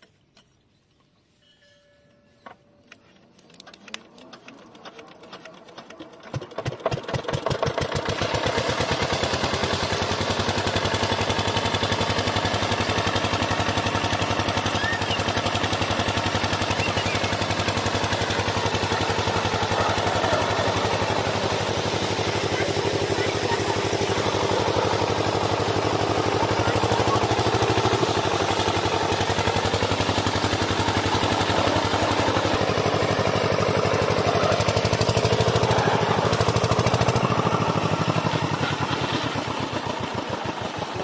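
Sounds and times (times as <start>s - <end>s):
diesel engine starting and running: 3.3s - 41.0s.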